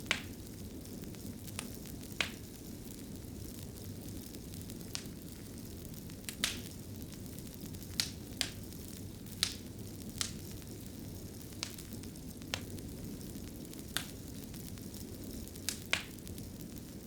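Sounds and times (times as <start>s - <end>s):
fire popping: 0.0s - 17.0s
fireplace fire crackling: 0.0s - 17.0s.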